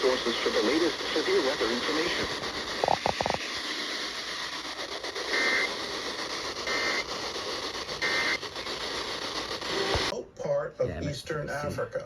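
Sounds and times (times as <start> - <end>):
warbling digital data tones: 0.0 - 10.1
radio static hiss: 0.0 - 10.2.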